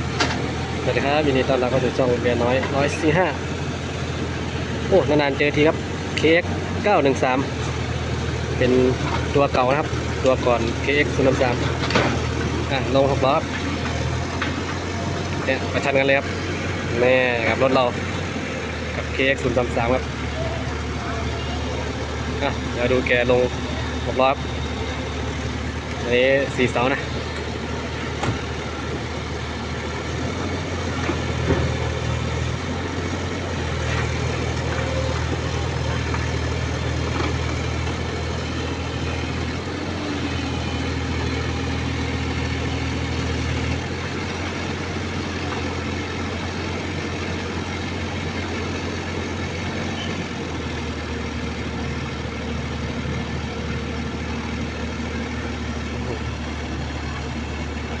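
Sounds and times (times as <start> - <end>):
excavator diesel engine working: 0.0 - 58.0.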